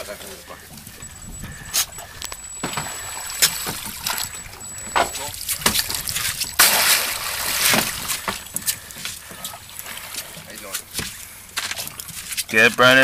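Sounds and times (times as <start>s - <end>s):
water splashing against boat: 0.8s - 13.0s.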